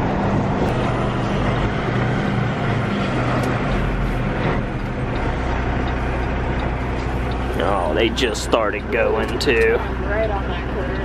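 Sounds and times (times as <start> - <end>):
diesel truck engine running: 0.0 - 11.0
road and cab noise: 0.0 - 11.0.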